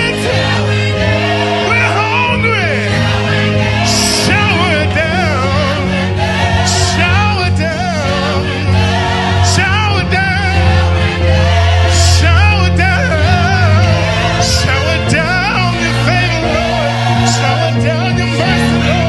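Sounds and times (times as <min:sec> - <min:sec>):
sustained bass and chords: 0:00.0 - 0:19.0
voices singing gospel: 0:00.0 - 0:19.0.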